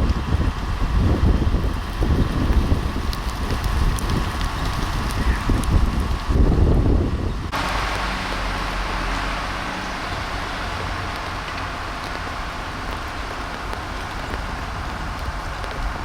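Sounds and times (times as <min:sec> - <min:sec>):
wet snow falling and dripping: 0:00.0 - 0:06.8, 0:07.5 - 0:16.0.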